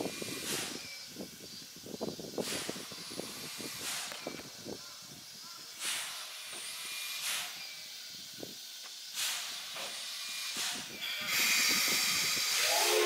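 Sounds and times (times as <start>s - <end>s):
faint steady steam hiss: 0.0s - 13.0s
steam locomotive hissing bursts: 0.0s - 13.0s.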